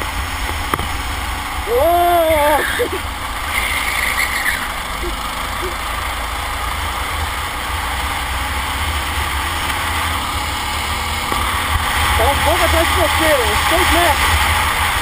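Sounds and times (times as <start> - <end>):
kart engine rumble: 0.0 - 15.0.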